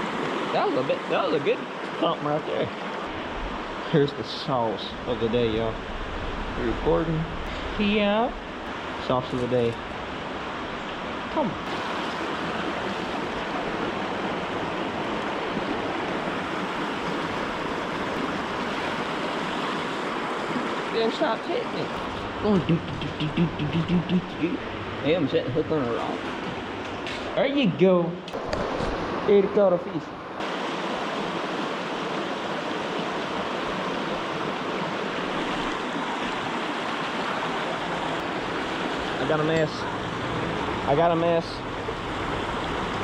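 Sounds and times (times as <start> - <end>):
mountain stream rushing: 0.0 - 43.0.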